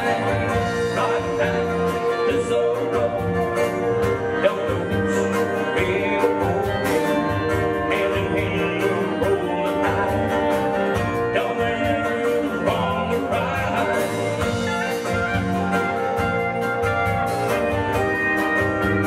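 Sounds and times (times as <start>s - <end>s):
acoustic guitar: 0.0s - 19.0s
bass guitar: 0.0s - 19.0s
drum kit: 0.0s - 19.0s
electric guitar: 0.0s - 19.0s.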